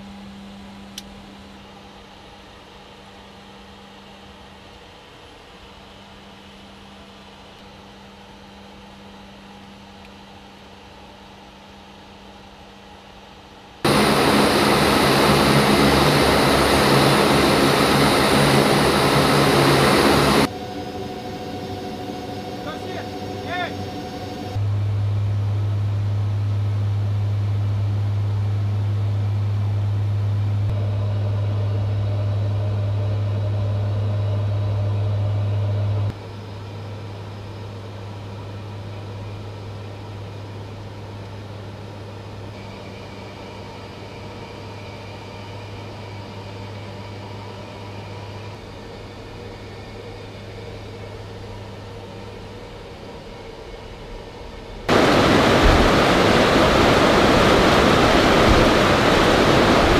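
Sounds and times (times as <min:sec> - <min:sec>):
turboprop aircraft engine drone: 0:00.0 - 0:59.9.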